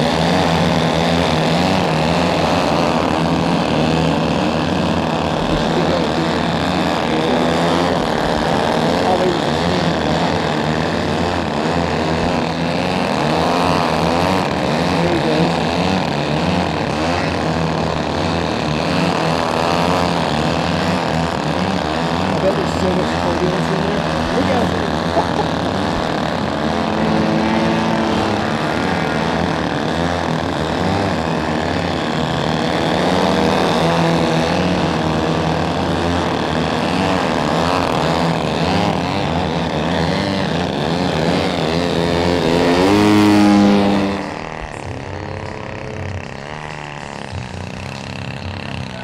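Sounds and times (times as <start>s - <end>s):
model airplane engines and propellers: 0.0s - 49.0s.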